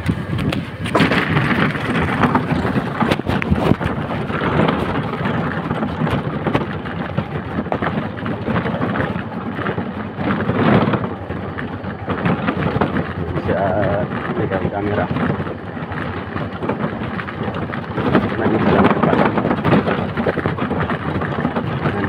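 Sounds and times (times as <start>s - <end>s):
knocking and rattling: 0.0s - 22.0s
motorcycle engine: 0.0s - 22.0s
wind noise on microphone: 0.0s - 22.0s.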